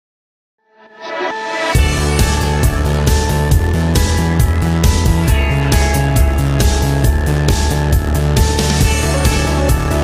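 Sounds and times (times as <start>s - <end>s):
sustained synth notes: 1.0s - 10.0s
drum beat with heavy bass: 1.8s - 10.0s.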